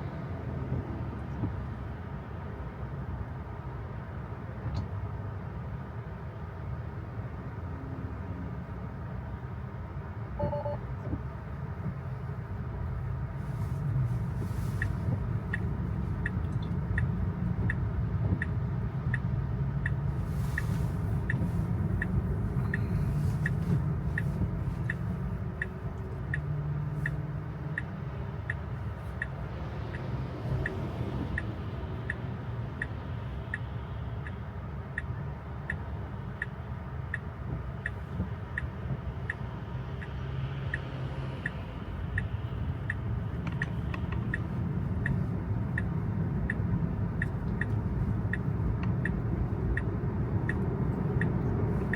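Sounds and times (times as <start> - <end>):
road and tyre rumble: 0.0 - 51.9
turn signal ticking: 10.3 - 51.9.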